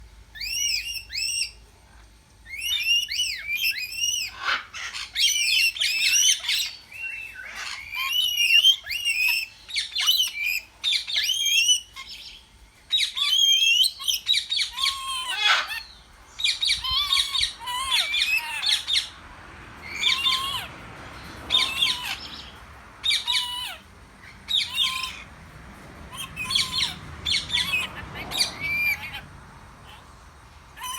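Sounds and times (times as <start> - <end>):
cockatiel chirps and squawks: 0.3 - 1.6, 2.5 - 19.1, 19.8 - 20.7, 21.5 - 25.3, 26.1 - 30.1.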